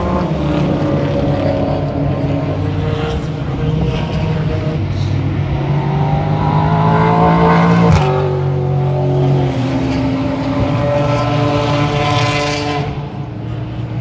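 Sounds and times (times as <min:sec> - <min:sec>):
racing car engines passing: 0:00.0 - 0:14.0.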